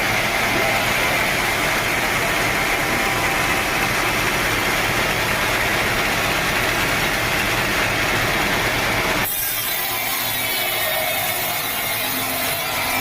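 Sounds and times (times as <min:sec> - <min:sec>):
sawmill motor drone: 0:00.0 - 0:13.0.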